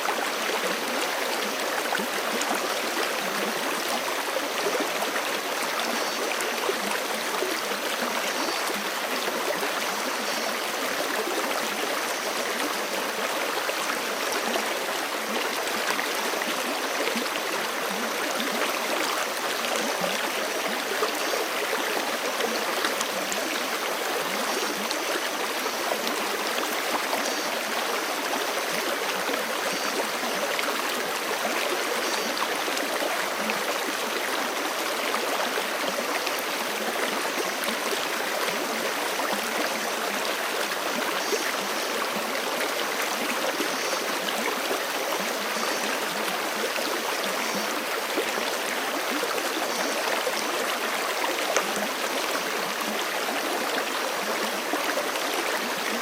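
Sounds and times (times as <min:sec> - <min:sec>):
creek rushing: 0:00.0 - 0:56.0.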